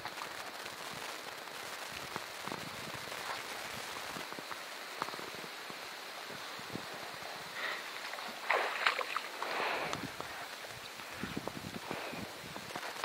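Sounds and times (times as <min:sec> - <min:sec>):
light rain on pond water: 0:00.0 - 0:13.0.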